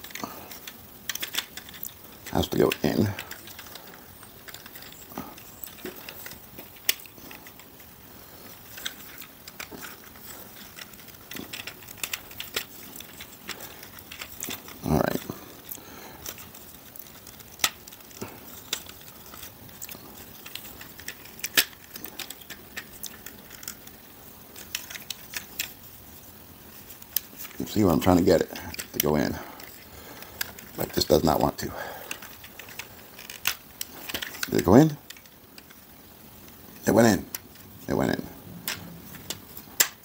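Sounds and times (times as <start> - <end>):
plastic parts clicking and tapping: 0.0 - 25.8, 26.8 - 36.6, 38.5 - 40.0.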